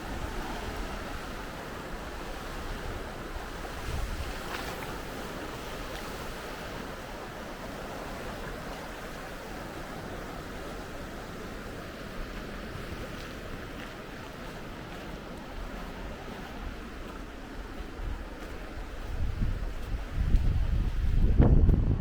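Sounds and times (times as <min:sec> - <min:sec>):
sea waves: 0:00.0 - 0:21.4
wind buffeting microphone: 0:00.0 - 0:22.0.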